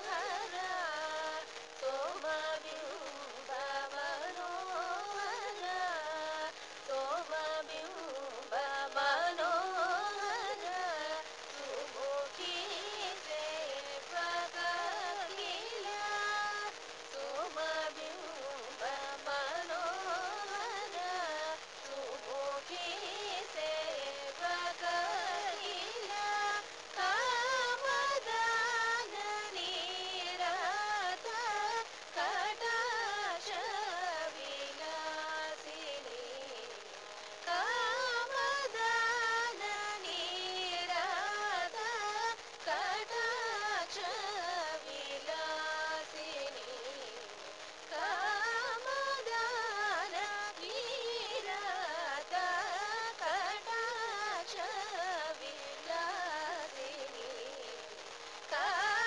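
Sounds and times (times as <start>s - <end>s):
person singing ornamented melody: 0.0s - 59.0s.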